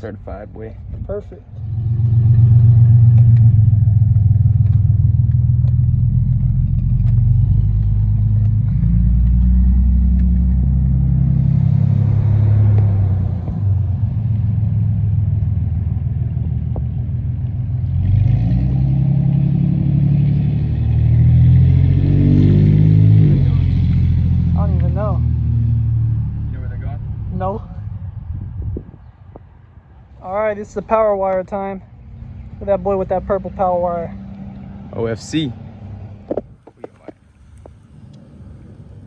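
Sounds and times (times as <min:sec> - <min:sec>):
vehicle engine low rumble: 0:00.0 - 0:39.0.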